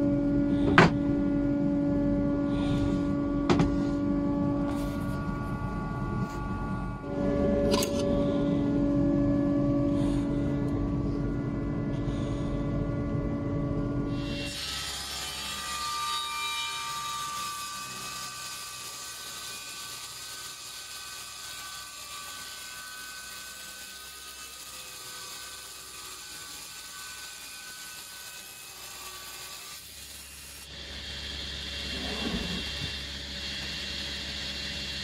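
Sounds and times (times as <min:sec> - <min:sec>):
saw motor humming: 0:00.0 - 0:35.0
table saw whine winding down: 0:00.0 - 0:35.0.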